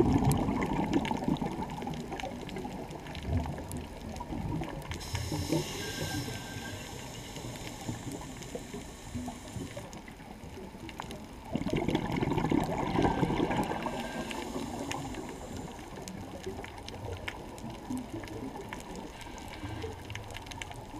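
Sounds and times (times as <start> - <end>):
exhaled bubbles gurgling underwater: 0.0 - 20.9
underwater background: 0.0 - 20.9
faint clicks: 1.0 - 11.2, 12.6 - 20.9.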